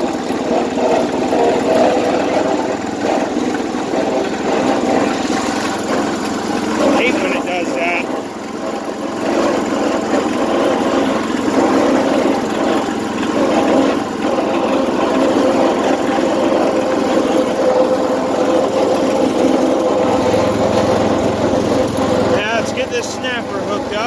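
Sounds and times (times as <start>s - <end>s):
small tractor engine running: 0.0s - 24.0s.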